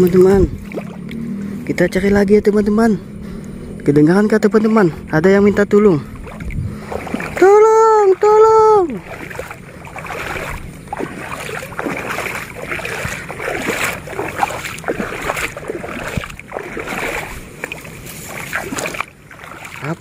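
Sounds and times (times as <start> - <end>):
wading through shallow water: 0.0 - 20.0.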